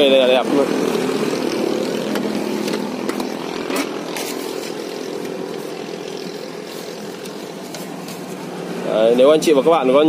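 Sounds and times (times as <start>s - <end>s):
engine hum: 0.0s - 10.0s.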